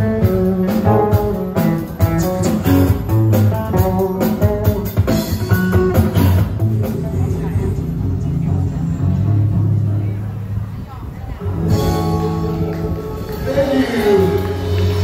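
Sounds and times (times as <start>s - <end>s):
guitar music: 0.0s - 10.6s, 11.4s - 15.0s.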